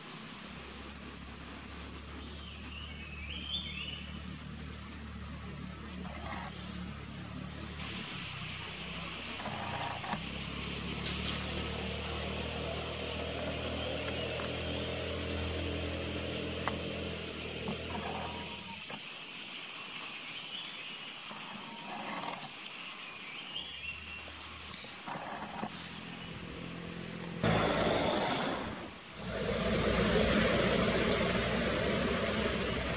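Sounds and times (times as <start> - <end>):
low engine hum: 0.0 - 19.0, 25.4 - 32.9
forest ambience hiss: 0.0 - 32.9.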